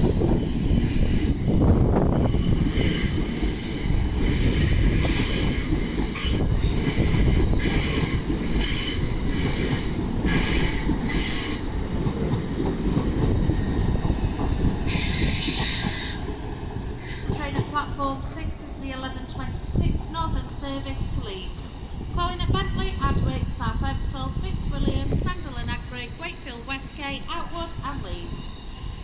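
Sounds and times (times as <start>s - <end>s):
heavy low train rumble: 0.0s - 29.0s
train wheels squealing: 0.0s - 29.0s.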